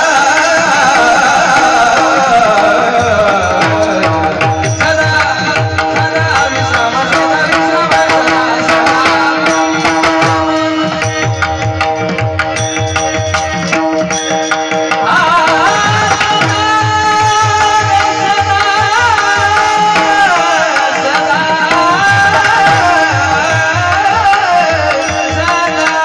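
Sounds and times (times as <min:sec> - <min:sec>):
person singing: 0:00.0 - 0:11.2, 0:15.0 - 0:26.0.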